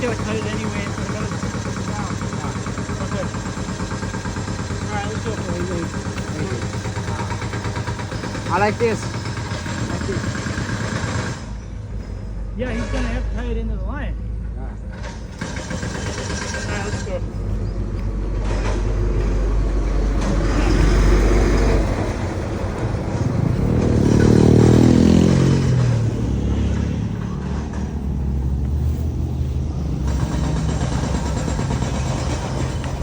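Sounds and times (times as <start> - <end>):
engine running: 0.0 - 33.0
vehicle passing: 0.0 - 33.0.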